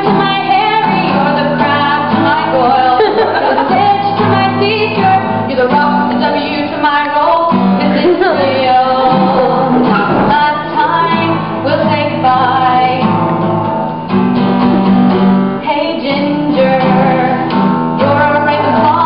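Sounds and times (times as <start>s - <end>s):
woman singing: 0.0s - 13.2s, 15.6s - 19.0s
acoustic guitar strumming: 0.0s - 19.0s.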